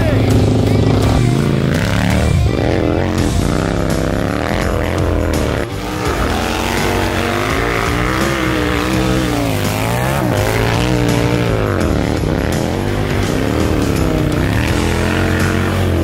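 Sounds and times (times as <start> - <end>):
go-kart engine revving: 0.0 - 16.0.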